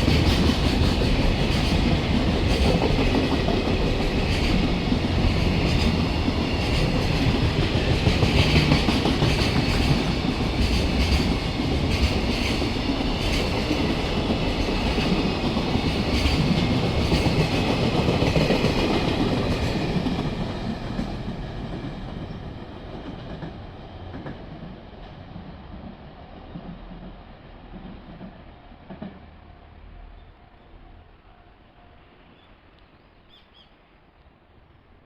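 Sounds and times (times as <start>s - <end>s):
train running on rails: 0.0s - 35.0s.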